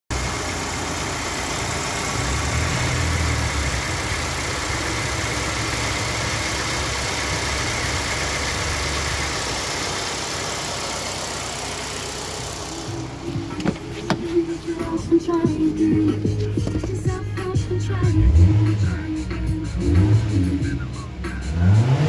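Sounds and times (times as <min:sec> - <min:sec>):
car engine idling: 0:00.1 - 0:22.0.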